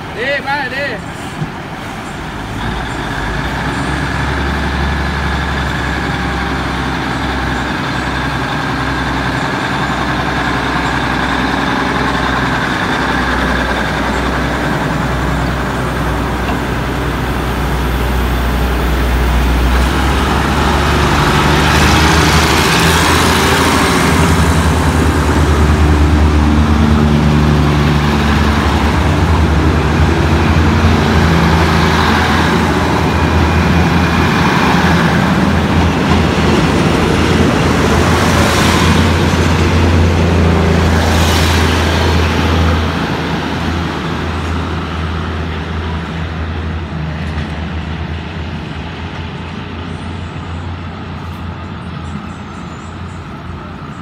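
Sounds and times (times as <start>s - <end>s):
diesel train engine idling: 0.0s - 54.0s.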